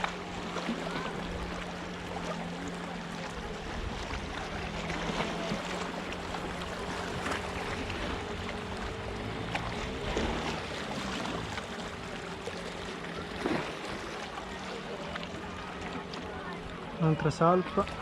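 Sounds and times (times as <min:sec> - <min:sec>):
sea water splashing on rocks: 0:00.0 - 0:16.6.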